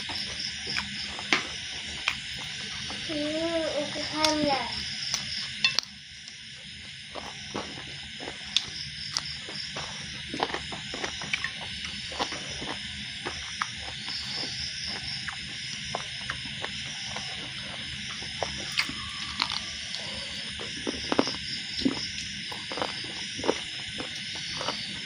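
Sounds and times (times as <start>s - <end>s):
person chewing food: 0.0s - 3.1s, 5.1s - 25.0s
insects chirring: 0.0s - 25.0s.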